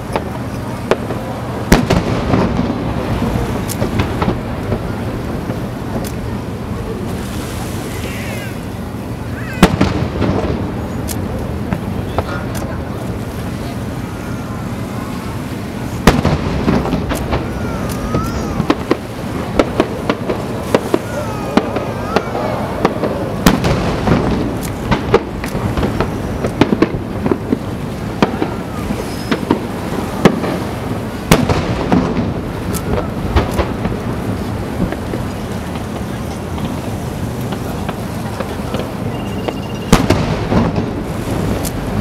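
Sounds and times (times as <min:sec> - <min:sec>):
continuous rumble: 0:00.0 - 0:42.0
firework bangs: 0:00.0 - 0:42.0.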